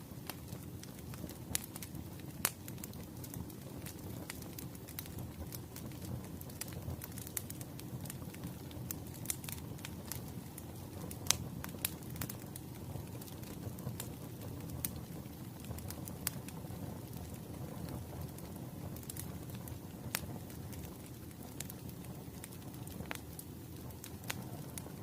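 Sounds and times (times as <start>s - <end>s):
firewood crackling: 0.0s - 25.0s.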